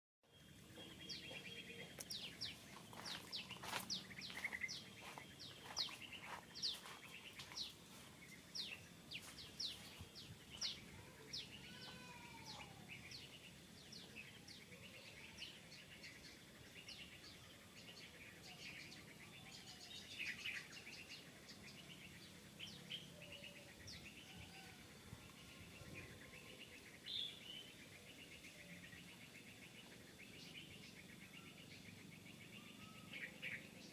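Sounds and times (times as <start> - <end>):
birds chirping: 0.2 - 33.9.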